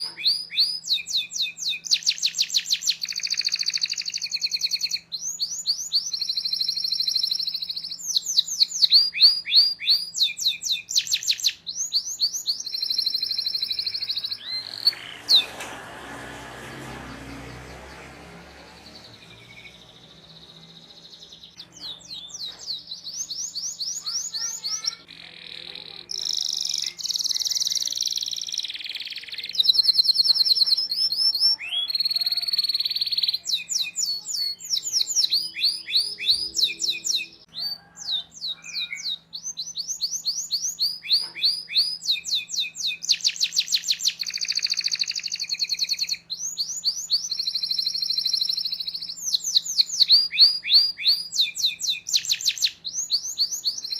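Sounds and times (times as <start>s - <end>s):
canary singing: 0.0s - 53.9s.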